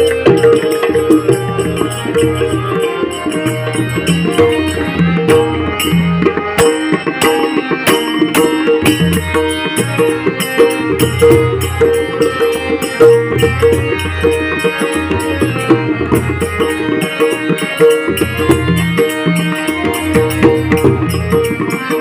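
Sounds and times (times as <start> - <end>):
hand drums playing: 0.0 - 22.0
harmonium held tones: 0.0 - 22.0.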